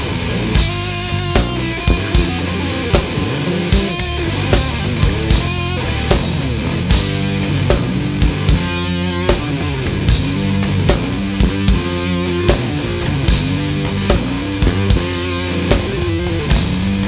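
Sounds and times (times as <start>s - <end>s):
bass-heavy music: 0.0s - 17.0s
steady drum beat: 0.0s - 17.0s.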